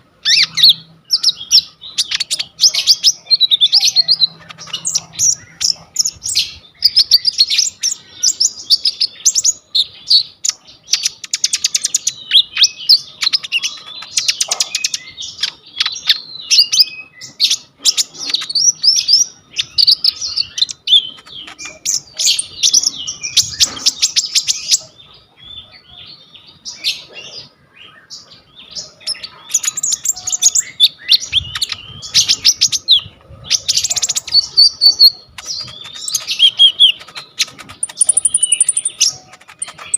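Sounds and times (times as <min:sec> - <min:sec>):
songbird singing chattering song: 0:00.0 - 0:39.9.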